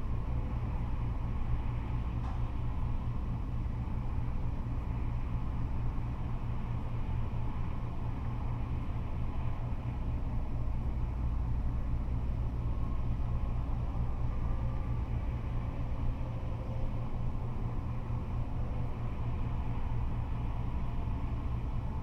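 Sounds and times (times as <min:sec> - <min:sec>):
freeway traffic rumble: 0:00.0 - 0:22.0.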